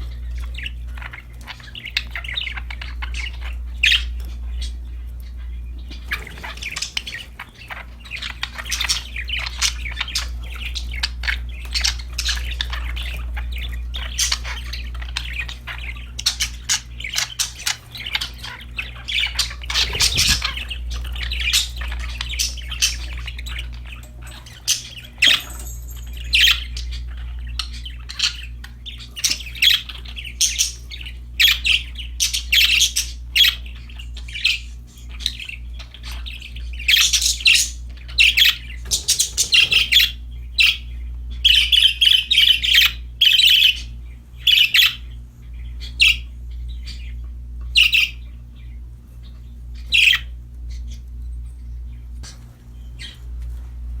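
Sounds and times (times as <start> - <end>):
budgerigars chirping and chattering: 0.0 - 54.0
steady low hum: 0.0 - 54.0.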